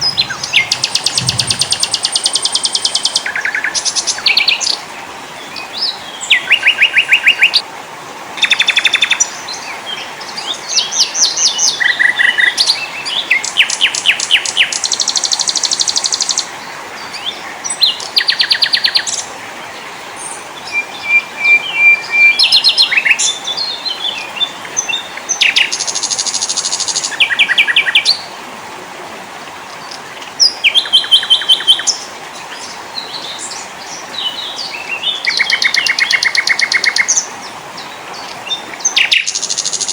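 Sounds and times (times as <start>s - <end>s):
small songbirds trilling: 0.0s - 4.8s, 8.4s - 28.3s, 29.8s - 39.9s
faint steady hiss: 0.0s - 39.9s.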